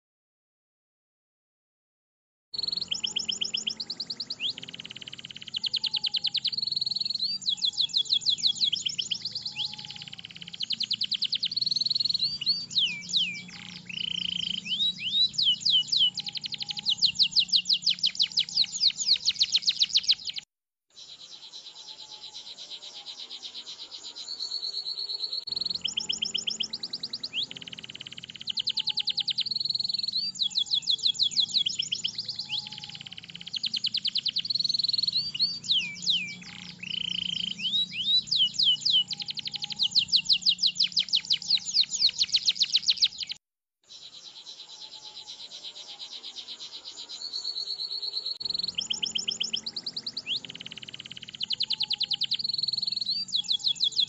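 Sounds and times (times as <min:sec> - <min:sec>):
canary singing trills: 0:02.6 - 0:54.0.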